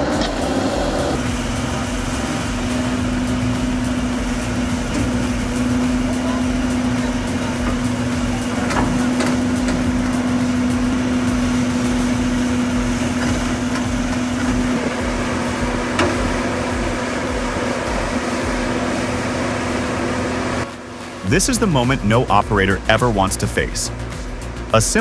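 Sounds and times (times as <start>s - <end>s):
constant whine: 0.0s - 25.0s
diesel engine running: 0.0s - 25.0s.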